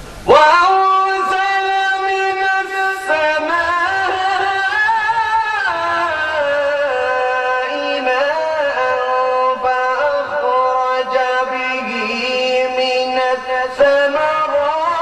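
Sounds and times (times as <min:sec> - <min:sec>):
man chanting melodically: 0:00.1 - 0:15.0.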